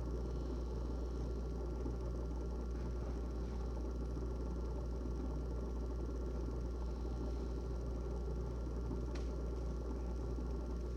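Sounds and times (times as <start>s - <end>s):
refrigerator humming: 0.0s - 10.9s.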